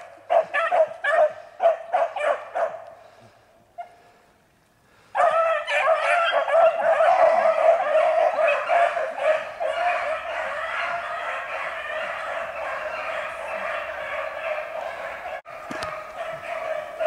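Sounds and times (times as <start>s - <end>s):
dogs baying: 0.2s - 3.0s, 5.1s - 17.0s.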